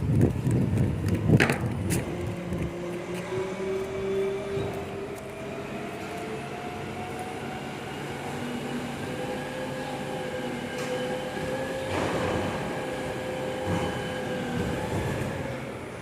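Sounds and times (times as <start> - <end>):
truck engine whine: 0.0 - 16.0.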